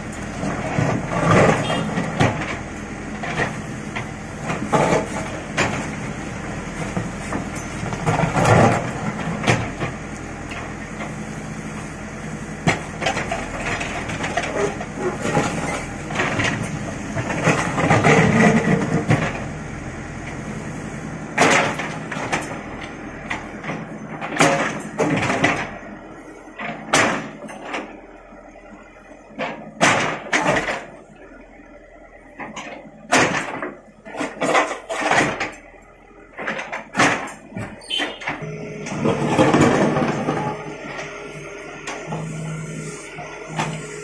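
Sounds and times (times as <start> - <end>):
diesel engine humming: 0.0 - 44.0.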